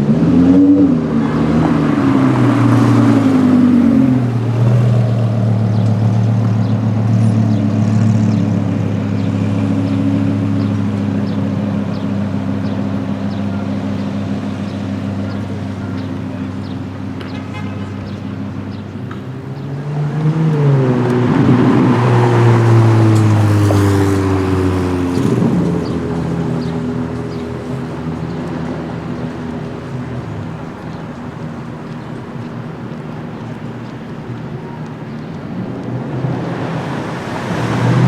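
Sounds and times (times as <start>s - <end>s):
car engine droning and revving: 0.0s - 38.0s.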